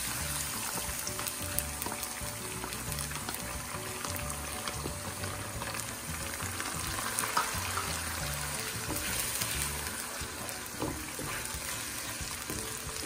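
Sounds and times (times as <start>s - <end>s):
sauce sizzling in frying pan: 0.0s - 13.0s.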